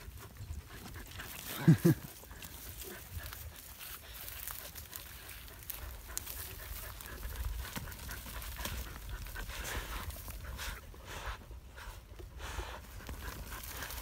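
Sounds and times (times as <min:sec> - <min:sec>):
dogs sniffing and panting: 0:00.0 - 0:14.0
paws scraping soil: 0:00.0 - 0:14.0.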